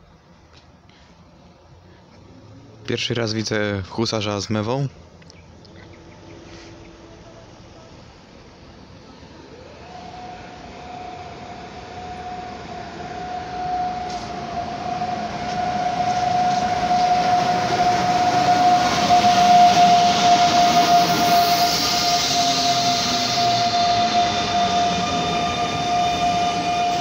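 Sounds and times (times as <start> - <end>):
electric locomotive whine: 0.0 - 27.0
train rumble: 0.0 - 27.0.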